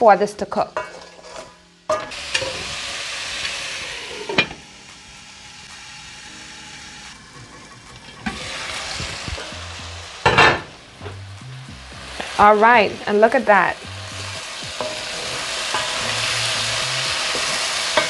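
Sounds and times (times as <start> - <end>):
meat and onions sizzling in a pot: 0.0 - 18.0.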